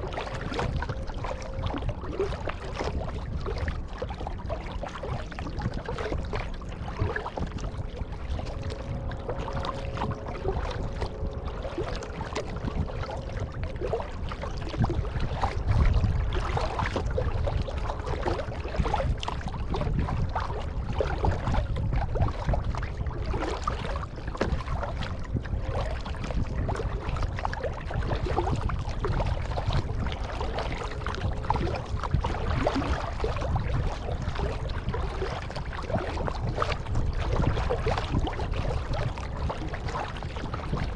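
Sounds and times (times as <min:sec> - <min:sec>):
kayak paddle pulling through water: 0:00.0 - 0:40.9
steady low rumble: 0:00.0 - 0:40.9
water splashes and drips: 0:00.0 - 0:40.9.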